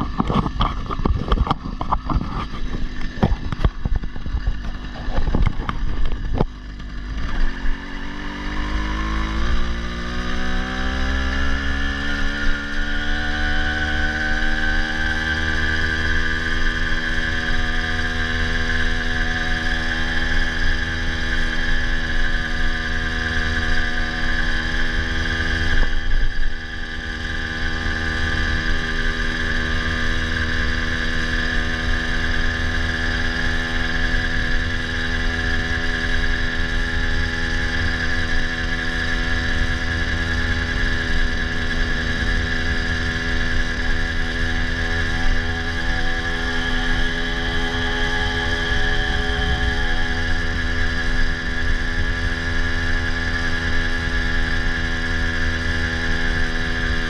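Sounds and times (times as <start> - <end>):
motorized bicycle engine running: 0.0 - 57.0.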